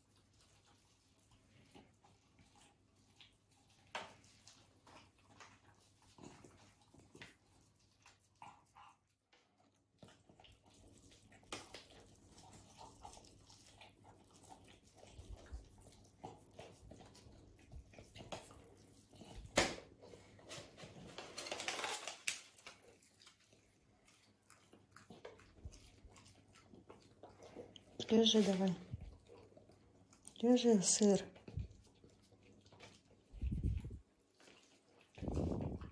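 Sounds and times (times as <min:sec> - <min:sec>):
puppy chewing and smacking: 0:00.0 - 0:35.9.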